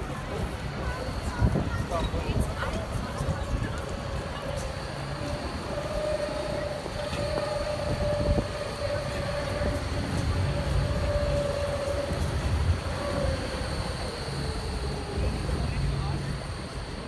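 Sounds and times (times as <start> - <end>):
tram passing with whine: 0.0 - 17.0.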